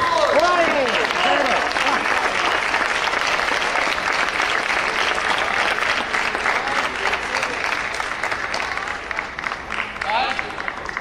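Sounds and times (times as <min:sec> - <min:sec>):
spectators applauding: 0:00.0 - 0:11.0.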